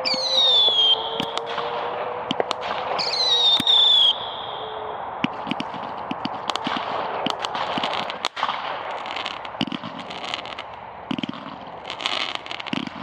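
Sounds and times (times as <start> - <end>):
crackling pops of fireworks: 0.0 - 13.0
fireworks bangs: 0.0 - 13.0.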